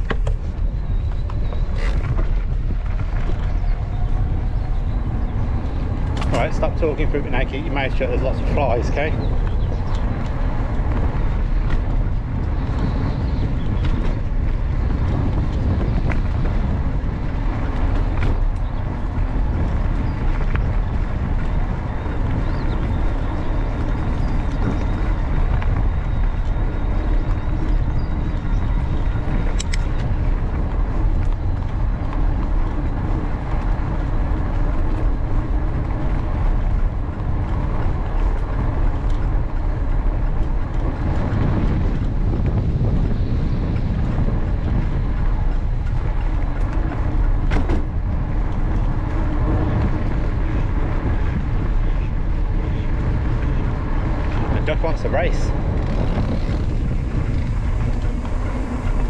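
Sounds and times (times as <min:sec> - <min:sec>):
bike tyres rolling: 0:00.0 - 0:59.0
sharp clicks from bumps: 0:00.0 - 0:59.0
wind rumble on microphone: 0:00.0 - 0:59.0.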